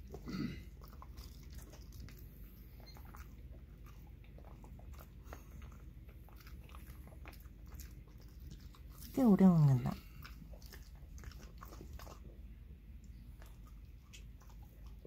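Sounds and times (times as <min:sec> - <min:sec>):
dog chewing a crunchy treat: 0:00.0 - 0:15.0.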